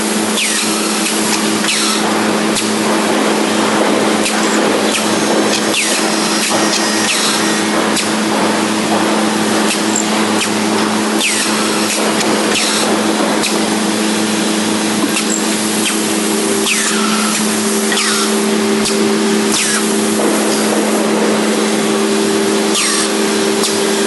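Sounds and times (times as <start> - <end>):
drilling machine running: 0.0 - 24.0.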